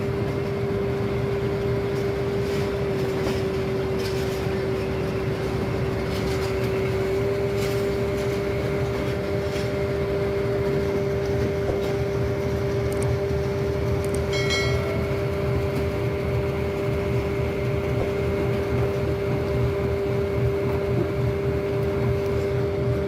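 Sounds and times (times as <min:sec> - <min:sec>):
diesel locomotive humming: 0:00.0 - 0:23.0.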